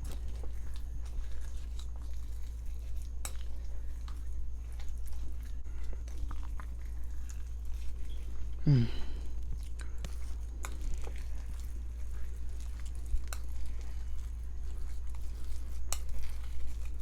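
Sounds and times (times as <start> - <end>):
eating sounds: 0.0 - 17.0.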